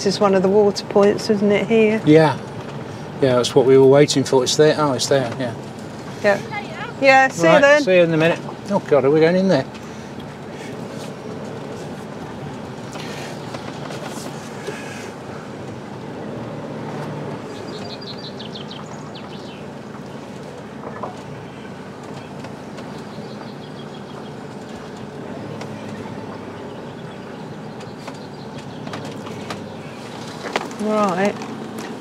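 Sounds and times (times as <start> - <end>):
motorhome engine running: 0.0 - 32.0.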